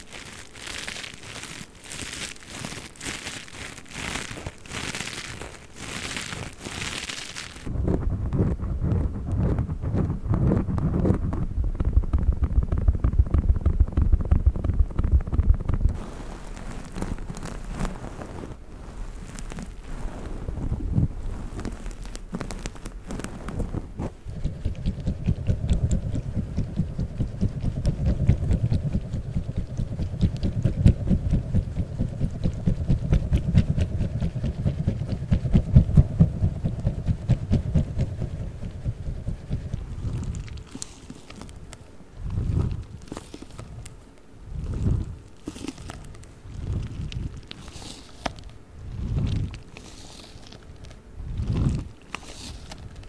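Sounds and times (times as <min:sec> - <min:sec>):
squishy ball being squeezed: 0:00.0 - 0:07.7, 0:08.3 - 0:53.0.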